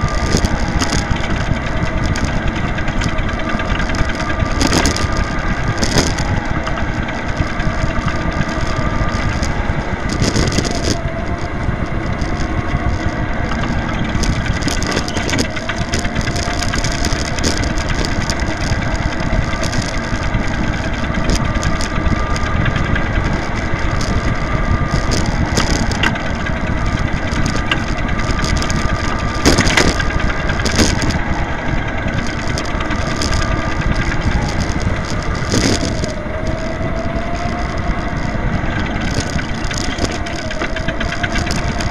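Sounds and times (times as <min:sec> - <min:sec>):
electric motor whine: 0:00.0 - 0:41.9
rattling and tyre noise: 0:00.0 - 0:41.9.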